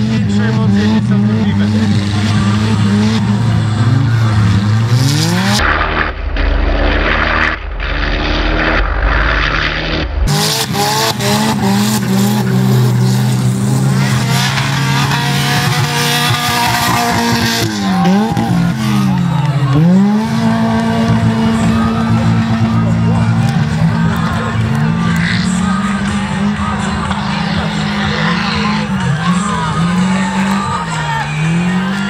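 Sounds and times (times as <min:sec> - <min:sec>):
car engines revving hard: 0:00.0 - 0:32.0
heavy deep rumble: 0:00.0 - 0:32.0.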